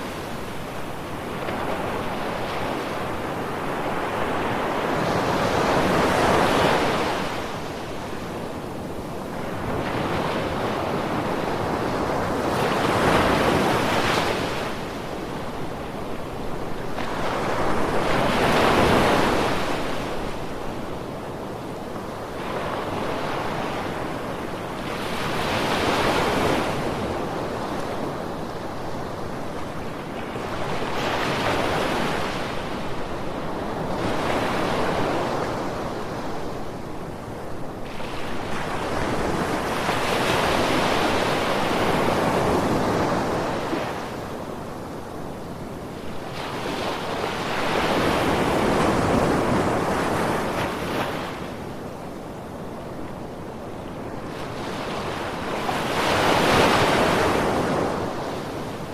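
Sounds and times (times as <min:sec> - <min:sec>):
ocean waves on sandy beach: 0:00.0 - 0:58.9.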